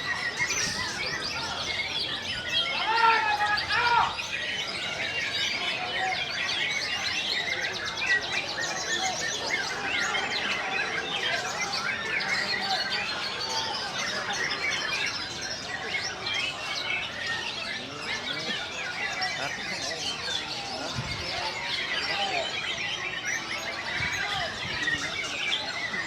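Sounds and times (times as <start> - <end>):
caged birds singing: 0.0 - 26.0.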